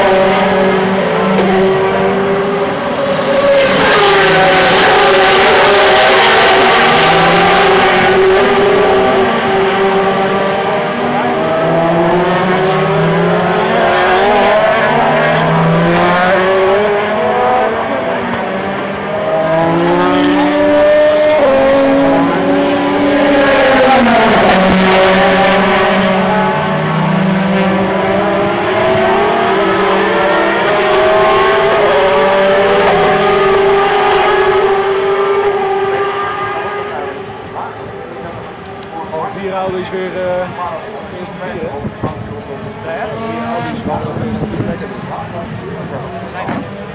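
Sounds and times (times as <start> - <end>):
racing car engines accelerating: 0.0 - 46.9.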